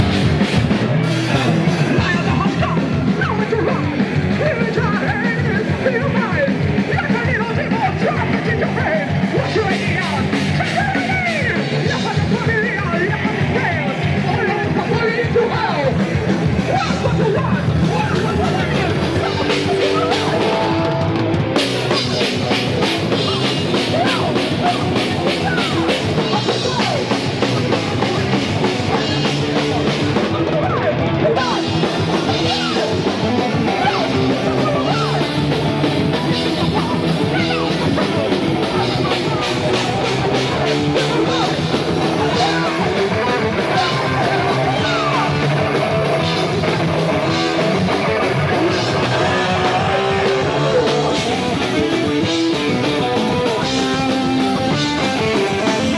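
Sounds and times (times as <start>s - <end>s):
fast drumming: 0.0s - 55.9s
heavy metal band playing live: 0.0s - 55.9s.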